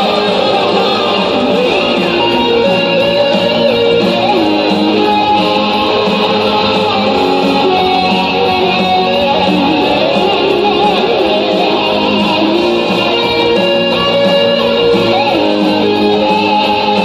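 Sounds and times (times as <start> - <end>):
electric guitar rock music: 0.0 - 17.0.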